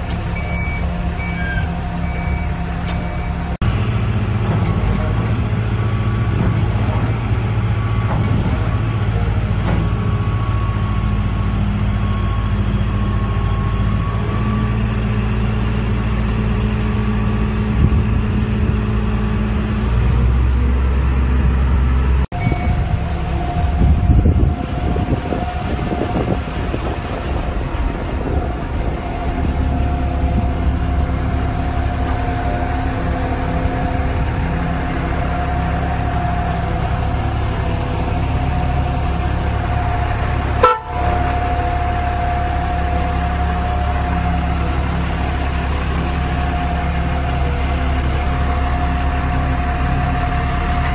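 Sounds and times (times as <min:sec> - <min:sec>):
crane diesel engine running: 0:00.0 - 0:50.9.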